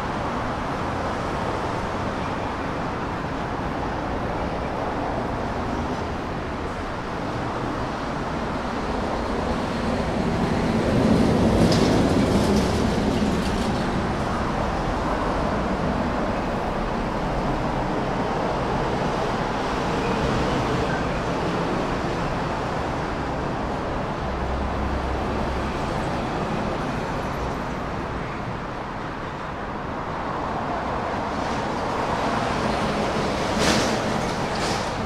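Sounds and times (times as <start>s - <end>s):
passing traffic rush: 0.0s - 35.0s.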